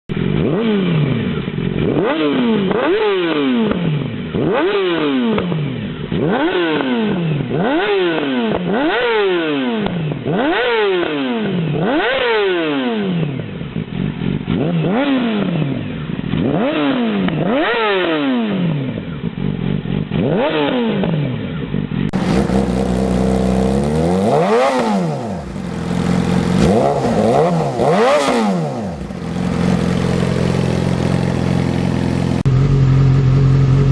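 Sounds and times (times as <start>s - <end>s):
motorcycle engine revving: 0.0s - 33.9s
motorcycle engine idling: 0.1s - 8.9s, 13.2s - 17.6s, 18.7s - 33.9s.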